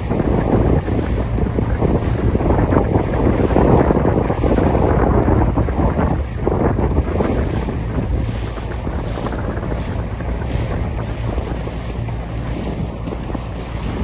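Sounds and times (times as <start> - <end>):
small waves slapping: 0.0 - 14.0
wind buffeting microphone: 0.0 - 14.0.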